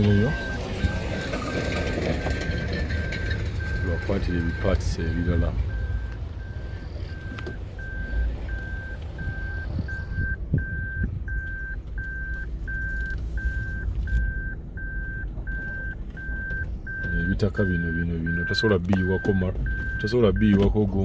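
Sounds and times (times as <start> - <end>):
engine and road rumble: 0.0 - 21.0
vehicle warning beeper: 0.0 - 21.0.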